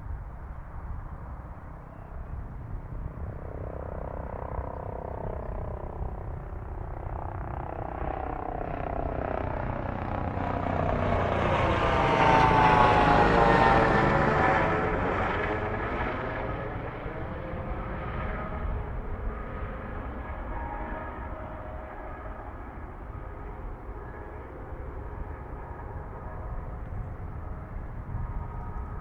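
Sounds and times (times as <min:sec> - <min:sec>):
airliner engine noise: 0:00.0 - 0:29.0
multi-tone engine whine: 0:00.0 - 0:29.0.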